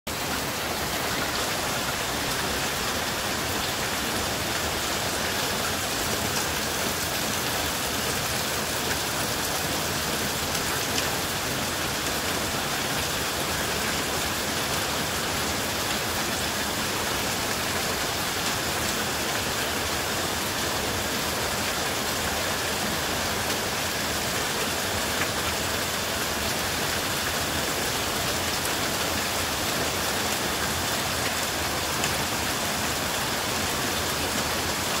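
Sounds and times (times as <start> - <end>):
heavy rain on standing water: 0.1 - 35.0.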